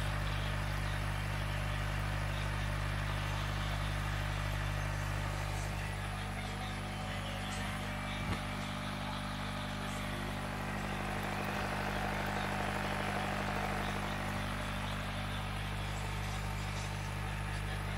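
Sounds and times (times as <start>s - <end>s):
aquarium equipment hum: 0.0s - 17.9s.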